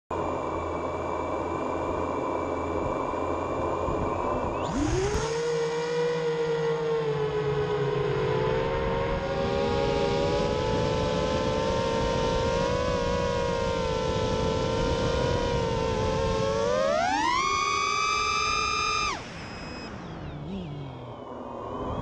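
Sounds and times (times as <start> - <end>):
quadcopter motors whining: 0.2 - 22.0.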